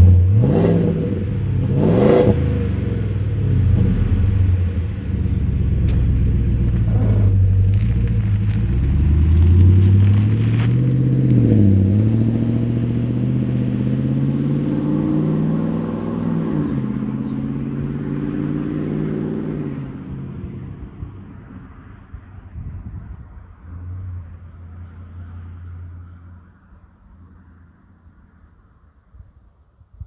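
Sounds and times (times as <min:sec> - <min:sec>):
car exhaust accelerating: 0:00.0 - 0:28.6.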